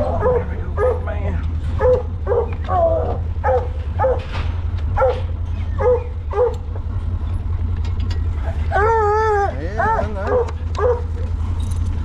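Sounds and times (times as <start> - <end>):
dogs barking: 0.0 - 6.9, 8.4 - 11.4
low rumble: 0.0 - 12.0.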